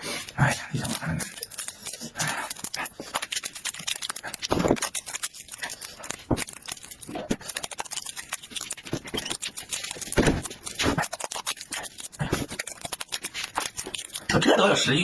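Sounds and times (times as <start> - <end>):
person chewing and lip-smacking: 0.0 - 15.0.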